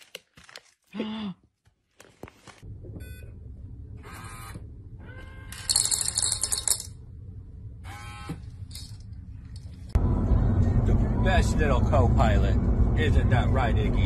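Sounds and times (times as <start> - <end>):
steady low hum: 2.6 - 14.0.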